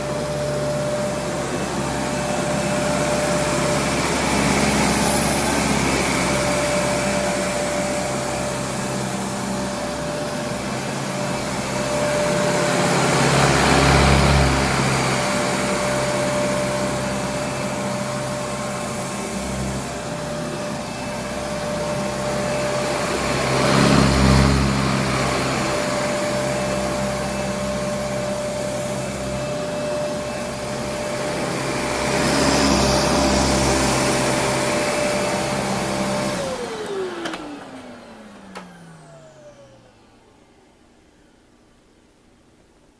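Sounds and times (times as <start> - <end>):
vacuum cleaner running: 0.0 - 42.4.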